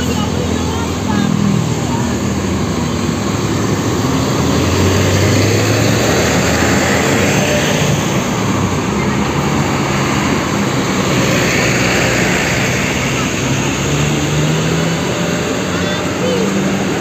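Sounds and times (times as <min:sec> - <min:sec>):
bus diesel engines passing: 0:00.0 - 0:17.0.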